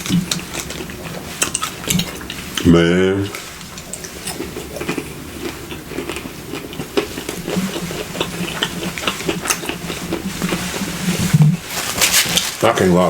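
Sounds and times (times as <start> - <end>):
chewing crunchy food: 0.0 - 2.7, 3.3 - 13.0.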